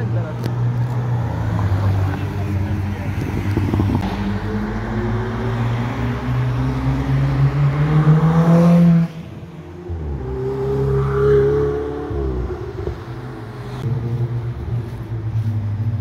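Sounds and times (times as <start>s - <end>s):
sports car engines accelerating: 0.0s - 16.0s.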